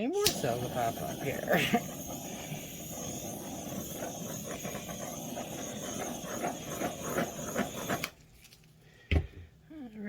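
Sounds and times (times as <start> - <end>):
butane torch hissing: 0.0 - 8.2.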